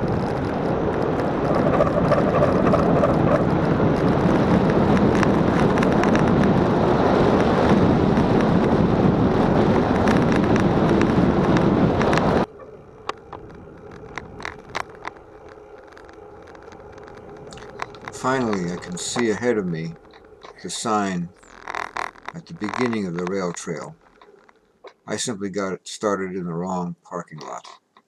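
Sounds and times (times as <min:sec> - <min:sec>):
wind rush on microphone: 0:00.0 - 0:24.2
bicycle road noise: 0:00.0 - 0:25.6.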